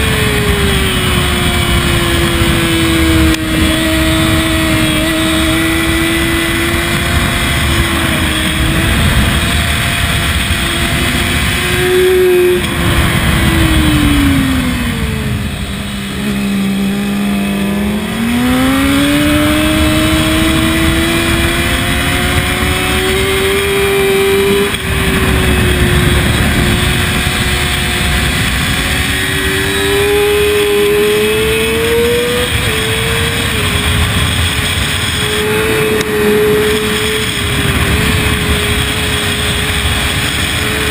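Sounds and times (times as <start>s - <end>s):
motorcycle engine running hard: 0.0s - 40.9s
wind rush: 0.0s - 40.9s.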